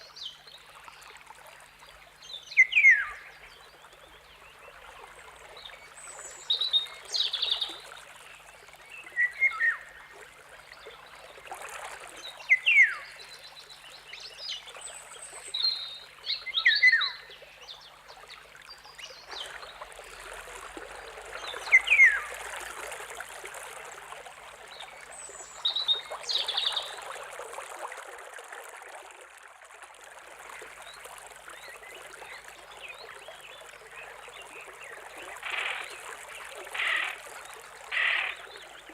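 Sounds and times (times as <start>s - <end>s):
trickling stream: 0.0s - 38.9s.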